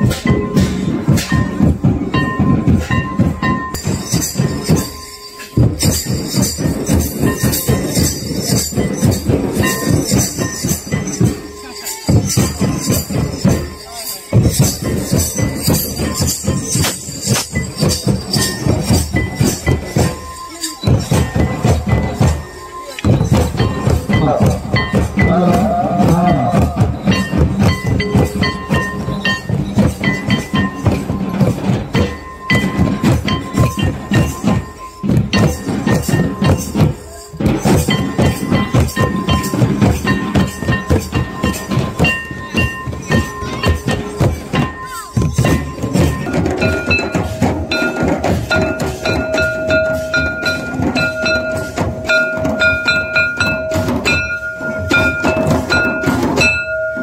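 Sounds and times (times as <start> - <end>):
fast hand drumming: 5.6 - 57.0.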